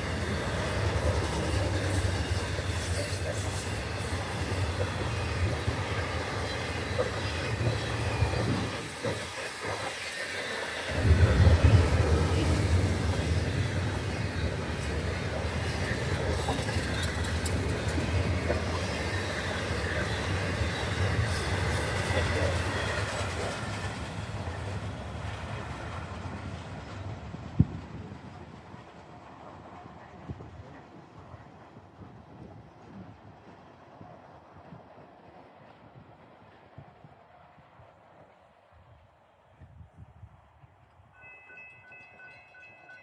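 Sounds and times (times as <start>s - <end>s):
freight train rumbling on rails: 0.0s - 40.4s, 41.2s - 43.0s.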